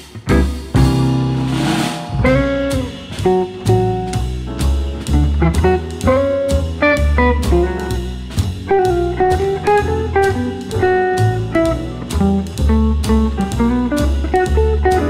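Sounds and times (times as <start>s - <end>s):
instrumental music with guitar: 0.0s - 15.0s.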